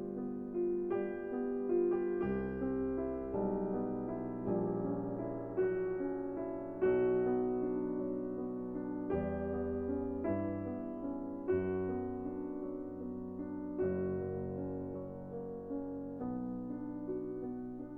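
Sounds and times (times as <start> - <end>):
slow piano music: 0.0 - 17.9.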